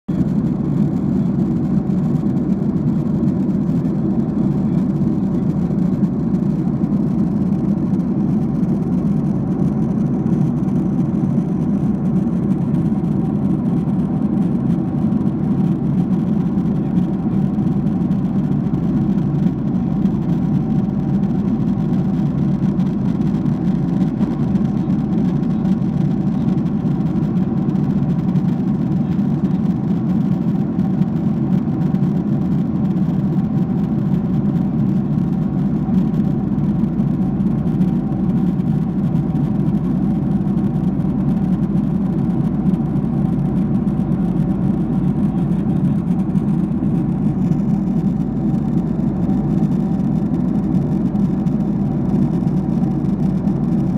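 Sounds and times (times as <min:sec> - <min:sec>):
faint steady hum: 0:00.1 - 0:53.9
jet cabin deep rumble: 0:00.1 - 0:53.9.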